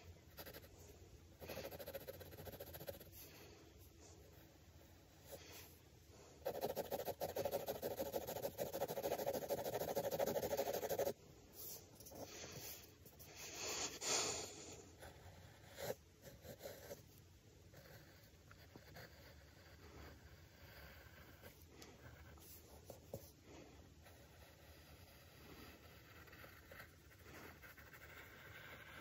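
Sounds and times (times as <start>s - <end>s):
pencil scratching on paper: 0.0s - 5.7s, 6.4s - 14.0s, 14.9s - 23.4s, 24.0s - 29.0s.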